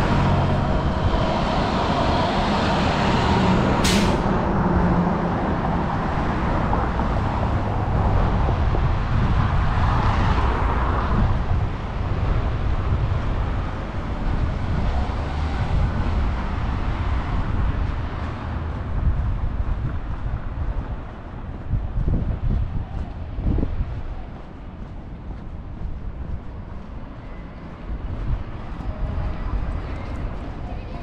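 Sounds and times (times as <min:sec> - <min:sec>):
vehicle passing by: 0:00.0 - 0:25.2
city traffic rumble: 0:00.0 - 0:31.0.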